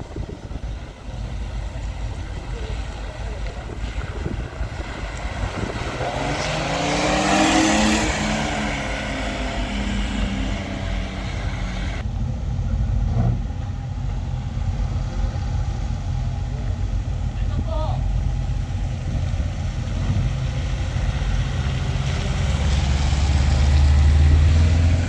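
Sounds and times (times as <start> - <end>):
car engine driving past: 1.4 - 17.4, 18.3 - 25.0.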